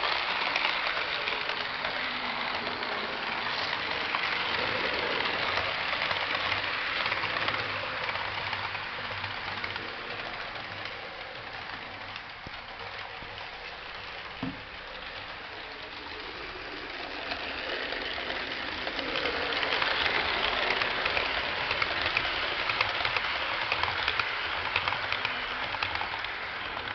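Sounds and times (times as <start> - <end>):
model train electric motor: 0.0 - 26.9
wheels clicking over rails: 0.0 - 26.9.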